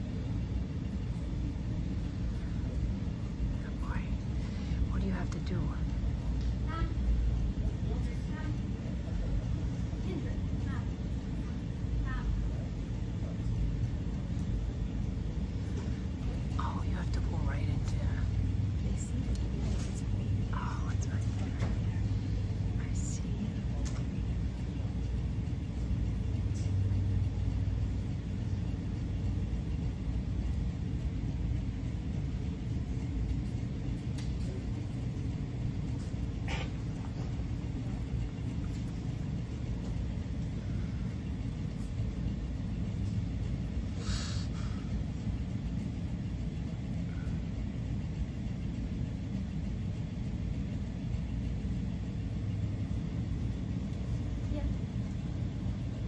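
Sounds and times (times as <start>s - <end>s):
low hum: 0.0s - 56.0s
ventilation units rumbling: 0.0s - 56.0s.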